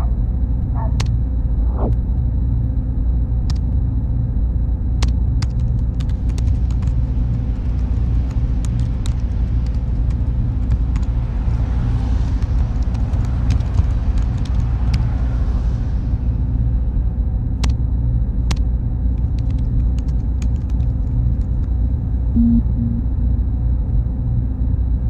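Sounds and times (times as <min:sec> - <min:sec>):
faint steady whine: 0:00.0 - 0:11.3, 0:15.6 - 0:25.0
cooling fans droning: 0:00.0 - 0:25.0.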